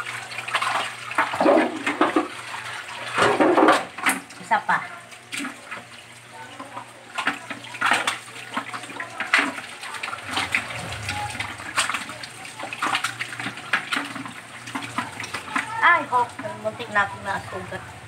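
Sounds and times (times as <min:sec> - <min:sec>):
water splashing in a sink: 0:00.0 - 0:18.0.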